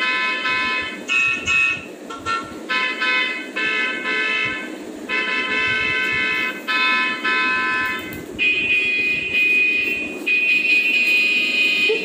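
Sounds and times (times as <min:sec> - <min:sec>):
horn-like tone blasts: 0:00.0 - 0:12.0.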